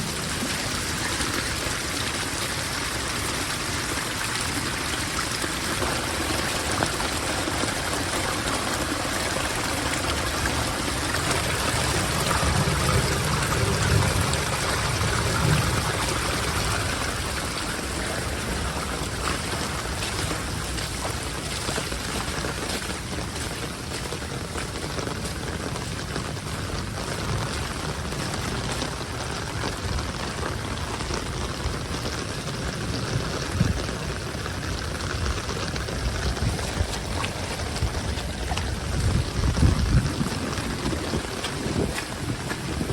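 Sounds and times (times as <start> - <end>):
floodwater pouring and rushing: 0.0 - 42.9.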